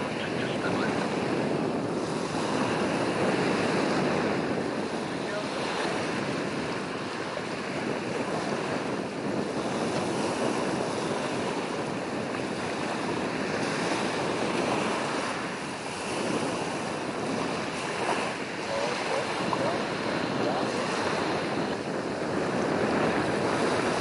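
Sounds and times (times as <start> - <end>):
small waves on shore: 0.0 - 24.0
wind rushing: 0.0 - 24.0.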